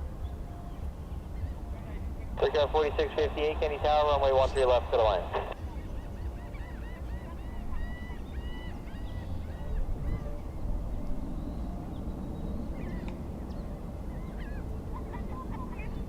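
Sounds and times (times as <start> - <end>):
steady low rumble: 0.0 - 16.0
birds calling: 0.2 - 16.0.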